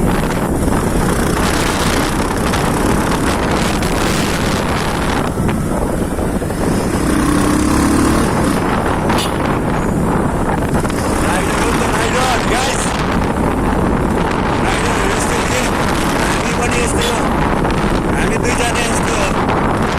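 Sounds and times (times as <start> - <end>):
motorcycle engine running: 0.0 - 19.9
wind buffeting microphone: 0.0 - 19.9.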